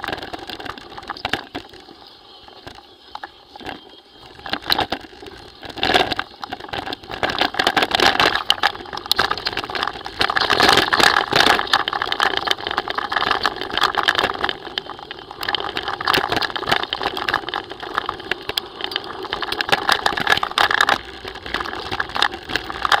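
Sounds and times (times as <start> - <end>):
bike and camera mount rattling: 0.0 - 1.9, 2.5 - 23.0
bike tyres crunching on gravel: 0.0 - 23.0.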